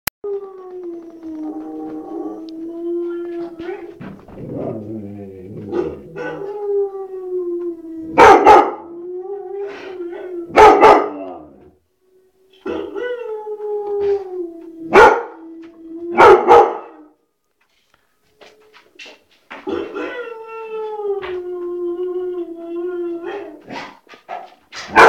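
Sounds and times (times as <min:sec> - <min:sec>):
dog howling: 0:00.2 - 0:17.2, 0:19.8 - 0:23.7.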